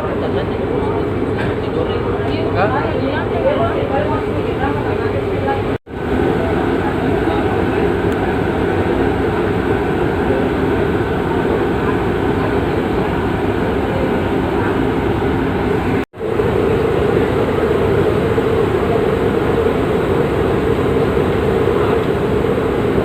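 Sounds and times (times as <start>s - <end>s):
ship engines droning: 0.0s - 23.0s.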